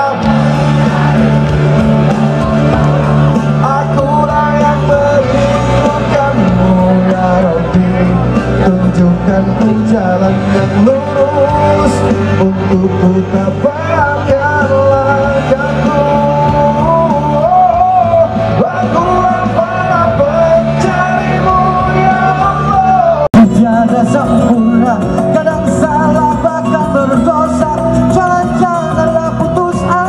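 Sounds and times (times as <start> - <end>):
live song over sound system: 0.0 - 30.0.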